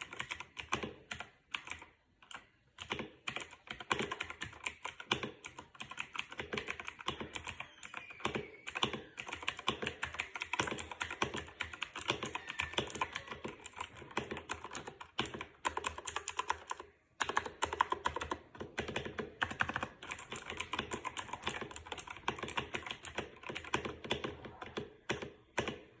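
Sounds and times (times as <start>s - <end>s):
fast typing on computer keyboard: 0.0s - 26.0s.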